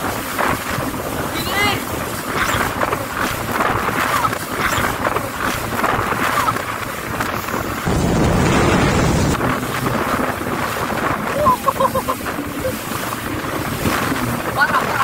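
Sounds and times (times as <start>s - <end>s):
water rushing and spraying: 0.0s - 15.0s
wind buffeting microphone: 0.0s - 15.0s.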